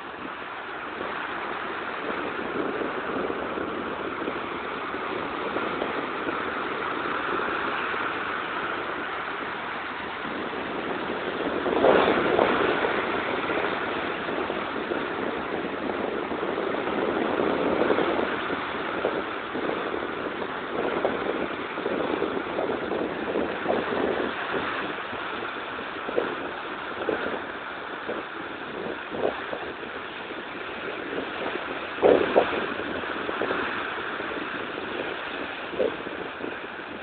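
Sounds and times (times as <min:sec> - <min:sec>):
sea surf washing onto shore: 0:00.0 - 0:37.0
wave breaking: 0:00.0 - 0:37.0.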